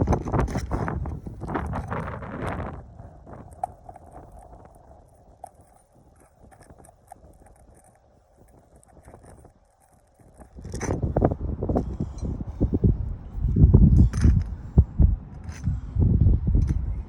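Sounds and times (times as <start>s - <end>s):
clicks and scrapes on shingle roof: 0.0s - 12.7s, 13.4s - 15.8s
rustling noise: 0.0s - 17.0s.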